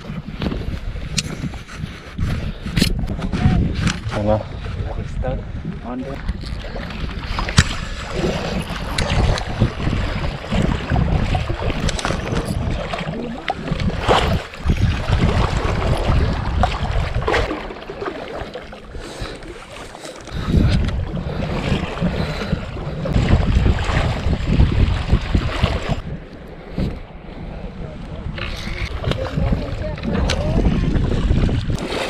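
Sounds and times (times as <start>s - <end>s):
wind rumbling on microphone: 0.0s - 32.0s
water sloshing: 5.6s - 32.0s.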